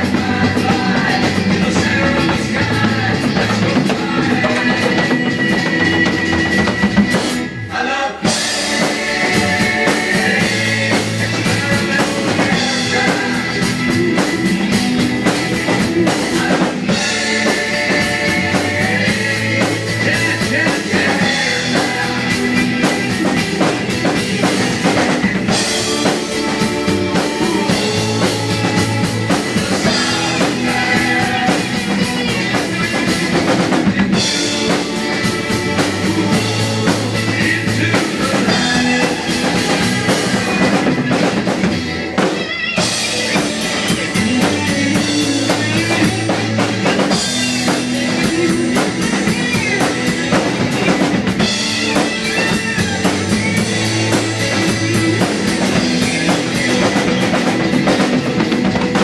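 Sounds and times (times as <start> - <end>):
drum kit playing rock beat: 0.0 - 59.0
rock recording with bass and guitar: 0.0 - 59.0.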